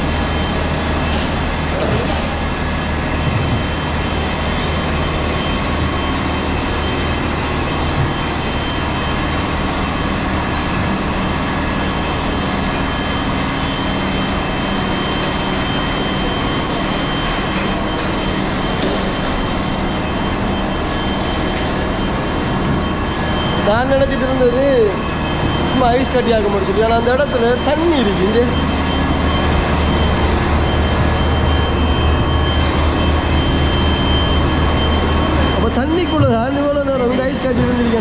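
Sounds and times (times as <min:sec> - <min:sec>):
high whining tone: 0:00.0 - 0:38.0
machinery drone: 0:00.0 - 0:38.0.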